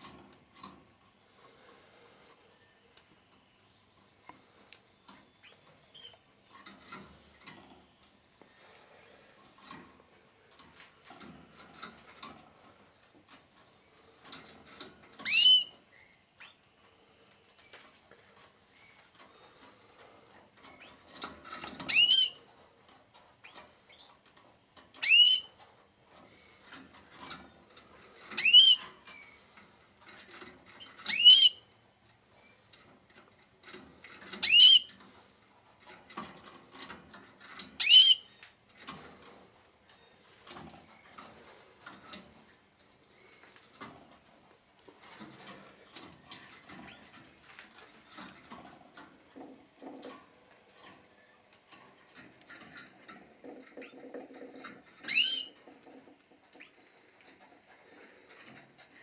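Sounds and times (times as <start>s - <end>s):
faint ticks and rustles: 0.0s - 59.0s.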